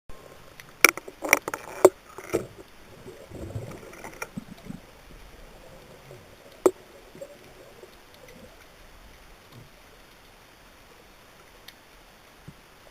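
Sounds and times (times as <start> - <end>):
low steady hiss: 0.1 - 12.9.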